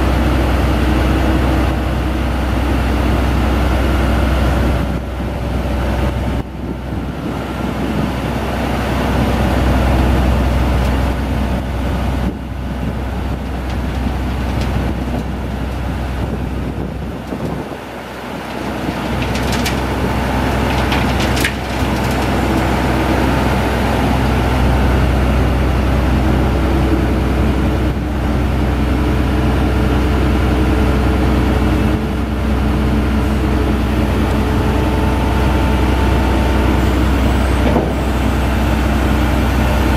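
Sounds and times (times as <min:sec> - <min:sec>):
diesel engine and hydraulics running: 0:00.0 - 0:39.9.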